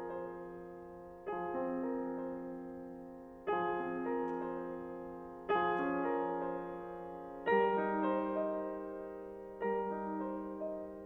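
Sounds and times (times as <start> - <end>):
piano chords ringing: 0.0 - 11.0.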